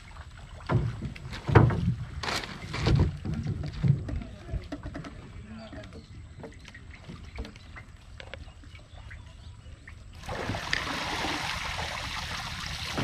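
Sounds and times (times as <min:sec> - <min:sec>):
splashing shallow water: 0:00.0 - 0:13.0.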